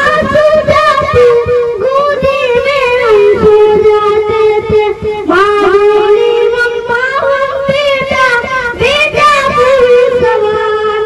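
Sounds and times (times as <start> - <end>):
boy singing into microphone: 0.0 - 11.0.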